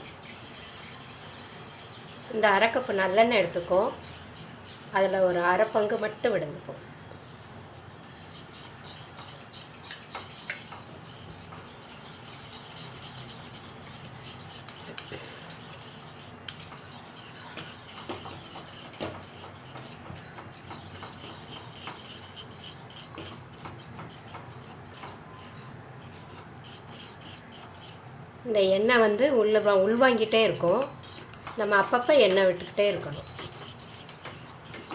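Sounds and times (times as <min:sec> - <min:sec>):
spoon scraping dough in pan: 0:00.0 - 0:06.4, 0:08.0 - 0:28.1, 0:28.8 - 0:34.9.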